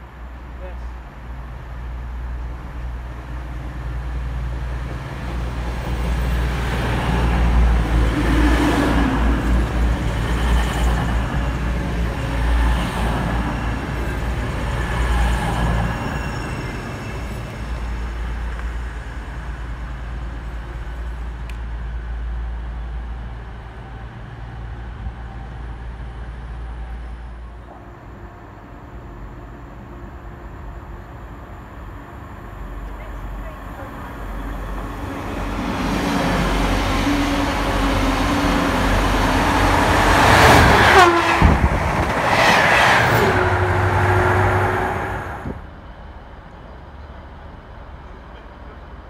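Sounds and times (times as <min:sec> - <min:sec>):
train passing rumbling: 0:00.0 - 0:49.0.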